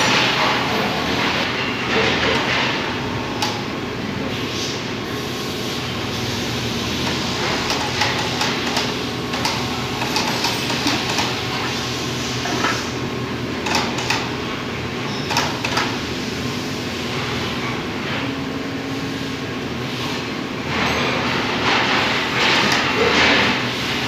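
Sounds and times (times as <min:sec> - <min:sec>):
workshop machinery drone: 0:00.0 - 0:24.0.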